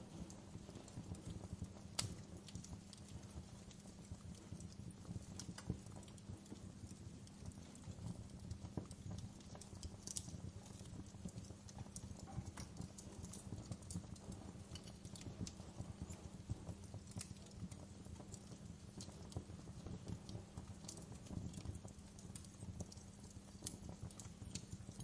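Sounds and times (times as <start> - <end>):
fire pops and snaps: 0.0 - 25.0
low rumble of flames: 0.0 - 25.0
wood fire crackling: 0.0 - 25.0.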